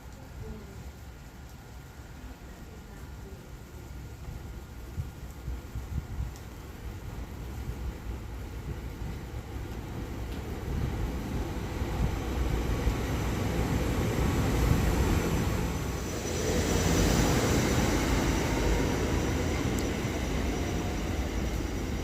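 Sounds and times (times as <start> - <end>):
passenger train rumble: 1.9 - 22.0.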